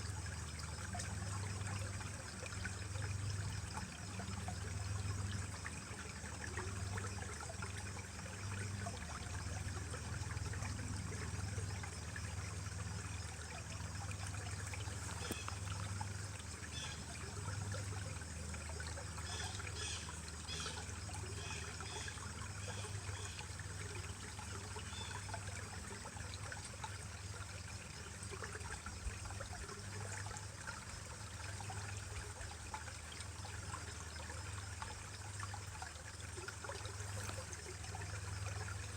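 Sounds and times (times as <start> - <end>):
stream splashing over rocks: 0.0 - 38.9.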